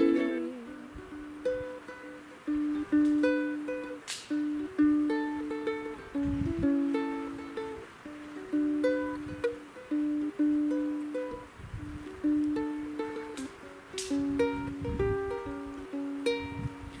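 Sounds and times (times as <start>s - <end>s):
ukulele fingerstyle melody: 0.0s - 17.0s.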